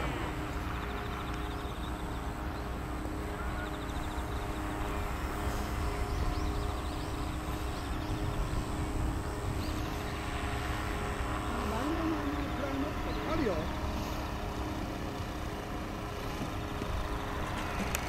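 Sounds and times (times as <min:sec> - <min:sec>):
model airplane engine running: 0:00.0 - 0:18.0.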